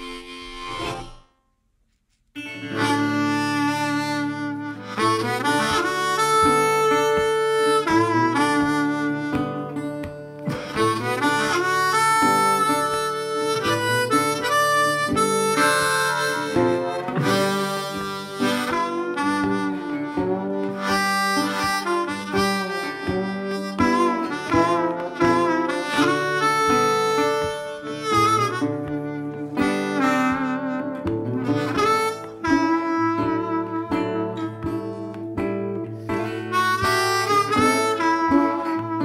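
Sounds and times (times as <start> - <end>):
instrumental music: 0.0 - 39.0.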